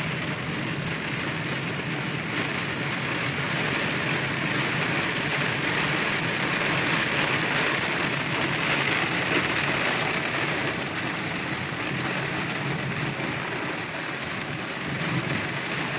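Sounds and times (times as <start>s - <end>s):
car engine: 0.0s - 15.9s
rain hitting car roof: 0.0s - 15.9s
wet tyre noise: 0.0s - 15.9s.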